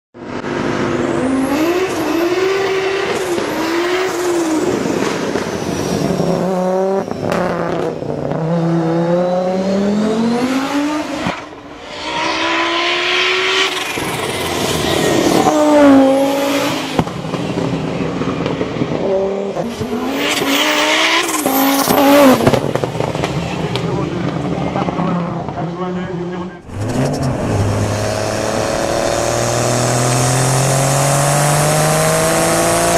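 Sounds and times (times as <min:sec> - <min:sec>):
car engine revving: 0:00.2 - 0:32.9.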